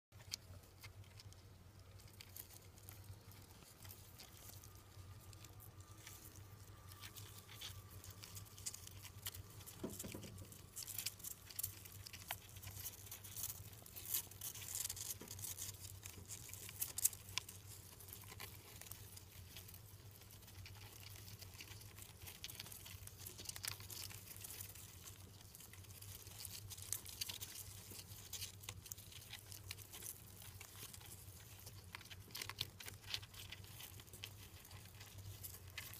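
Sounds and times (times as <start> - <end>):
hamsters rustling in bedding: 0.2 - 35.9
low steady hum: 0.2 - 35.9
small ticks: 0.2 - 35.9.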